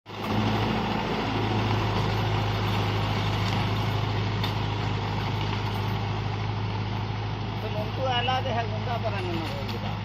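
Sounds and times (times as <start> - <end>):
tractor diesel engine droning: 0.1 - 10.0.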